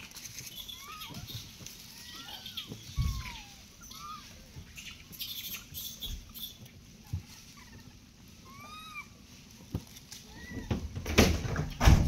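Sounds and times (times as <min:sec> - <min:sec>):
monkeys feeding crackling: 0:00.0 - 0:10.8
dry leaves rustling: 0:00.0 - 0:11.8.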